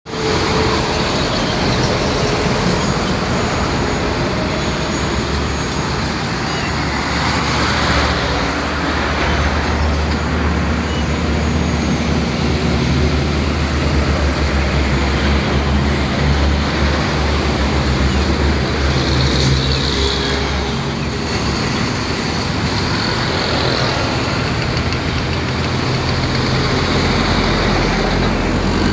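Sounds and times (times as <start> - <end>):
traffic noise: 0.0 - 28.9.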